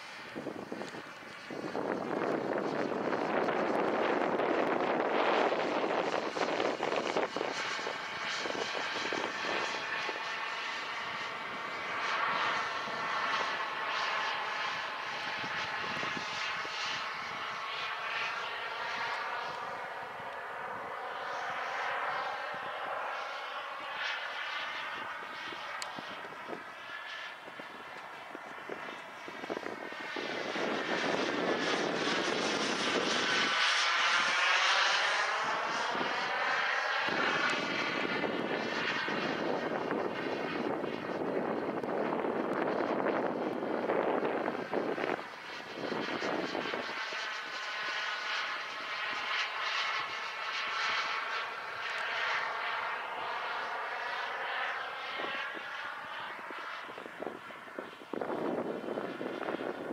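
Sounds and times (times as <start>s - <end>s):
jet turbine whine: 0.0s - 59.9s.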